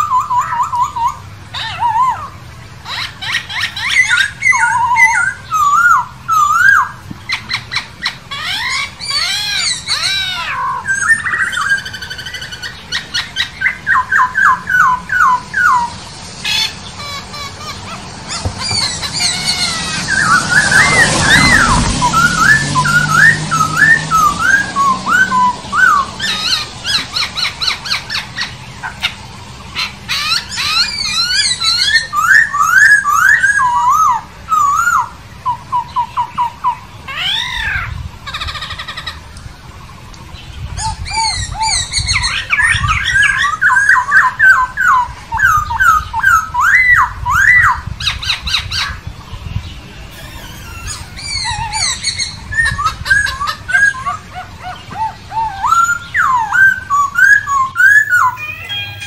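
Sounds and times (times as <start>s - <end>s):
bird singing whistled phrases: 0.0s - 17.5s, 18.3s - 28.5s, 29.8s - 37.8s, 40.8s - 47.8s, 50.1s - 54.2s, 55.0s - 59.0s.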